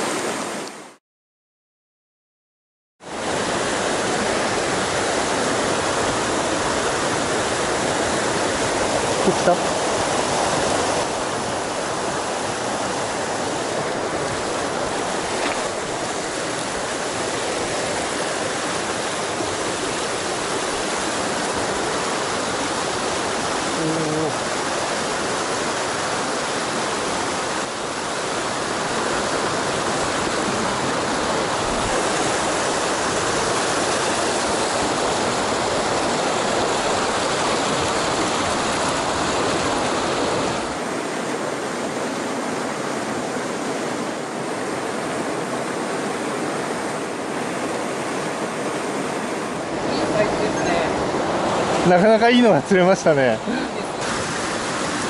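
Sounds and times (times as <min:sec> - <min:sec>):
whitewater rushing over boulders: 0:00.0 - 0:01.0, 0:03.1 - 0:55.0.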